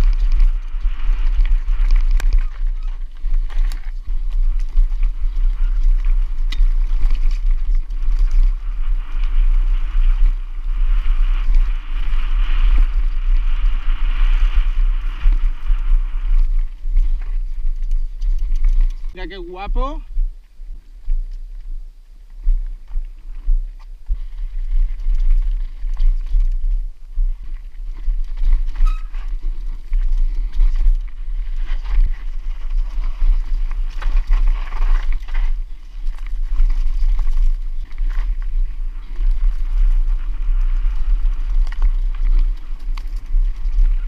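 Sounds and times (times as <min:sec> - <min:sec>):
bike frame and chain rattling: 0:00.0 - 0:19.4, 0:23.7 - 0:44.0
bike tyres on dirt and stones: 0:00.0 - 0:44.0
wind rumble on microphone: 0:00.0 - 0:44.0.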